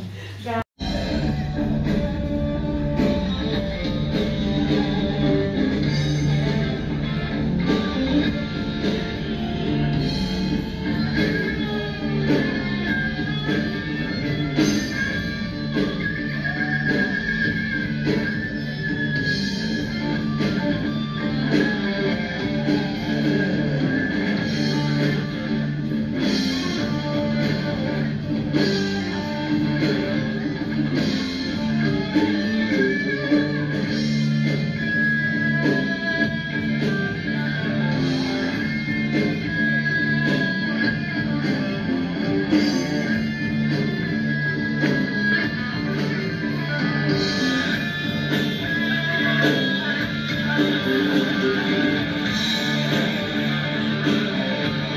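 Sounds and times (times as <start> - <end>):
guitar-led background music: 0.8 - 54.9.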